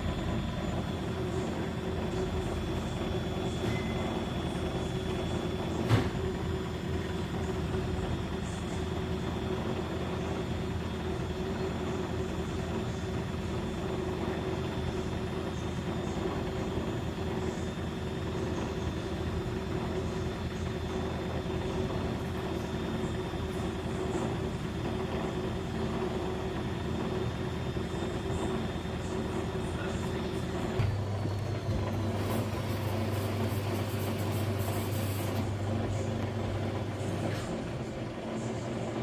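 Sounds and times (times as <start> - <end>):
washing machine drum spinning: 0.0 - 39.0.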